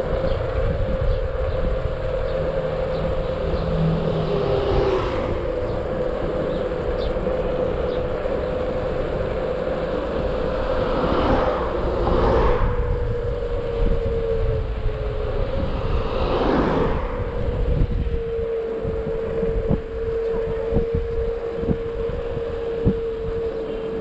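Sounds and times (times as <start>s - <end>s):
electric scooter motor whine: 0.0s - 24.0s
wind and tyre noise: 0.0s - 24.0s.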